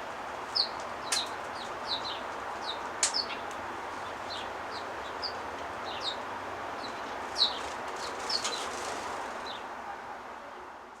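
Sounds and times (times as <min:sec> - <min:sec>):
steady background hiss: 0:00.0 - 0:11.0
sparrows chirping: 0:00.5 - 0:09.7.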